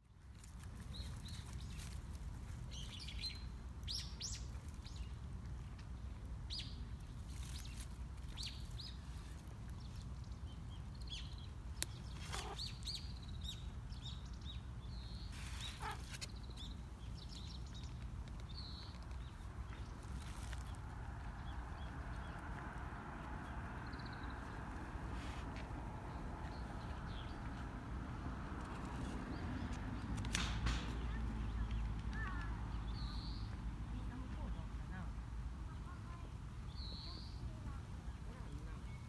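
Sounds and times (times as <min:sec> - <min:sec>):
small birds chirping: 0:00.1 - 0:39.0.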